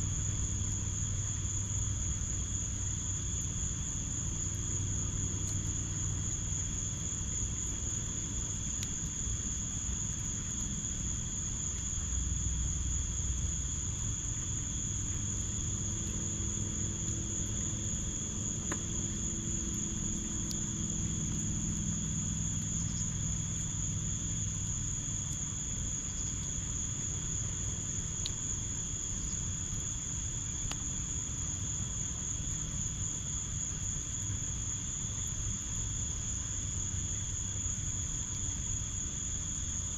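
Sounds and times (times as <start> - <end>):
fire pit rumble: 0.0 - 39.9
insects chirring: 0.0 - 39.9.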